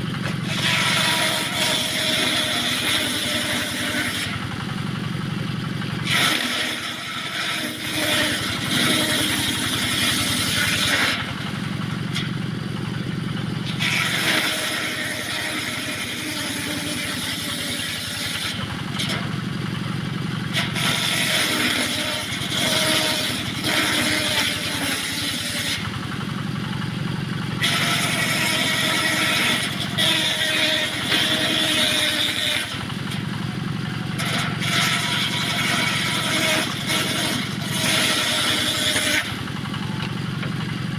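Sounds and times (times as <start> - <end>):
saw blade cutting wood: 0.0 - 4.5, 6.0 - 12.4, 13.6 - 19.4, 20.5 - 26.2, 27.6 - 33.2, 34.1 - 40.6
engine hum: 0.0 - 40.9.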